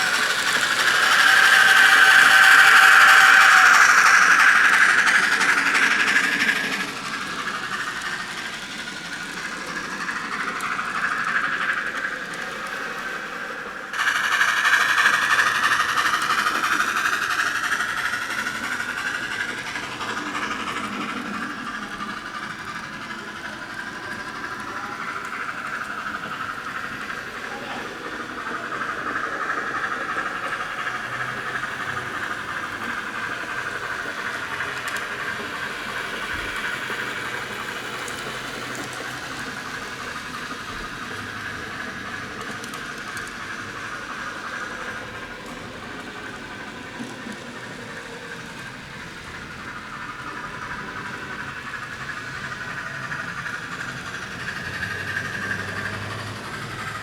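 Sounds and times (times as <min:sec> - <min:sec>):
model train whirring on track: 0:00.0 - 0:57.0.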